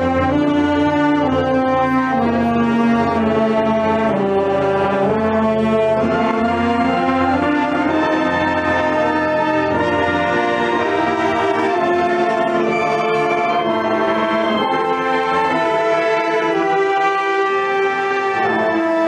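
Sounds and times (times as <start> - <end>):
brass band playing held chords: 0.0 - 19.0.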